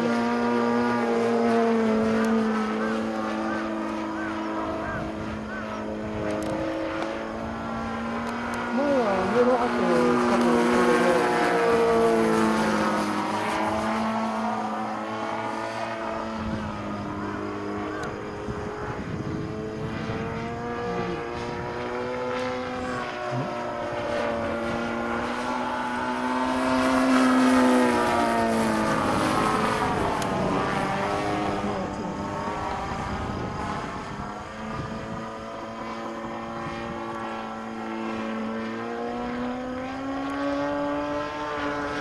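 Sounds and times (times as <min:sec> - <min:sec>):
model airplane propeller motor: 0:00.0 - 0:42.0.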